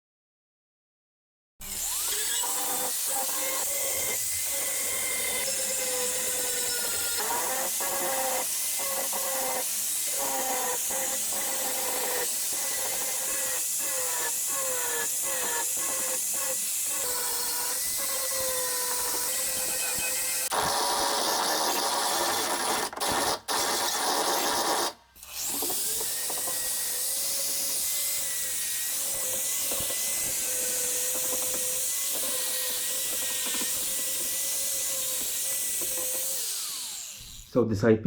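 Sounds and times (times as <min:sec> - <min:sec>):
angle grinder grinding metal: 0:01.6 - 0:37.7.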